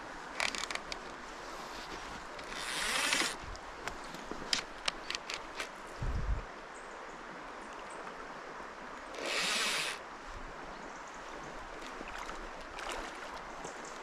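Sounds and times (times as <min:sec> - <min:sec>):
river water rushing: 0:00.0 - 0:14.0
wind: 0:00.0 - 0:14.0.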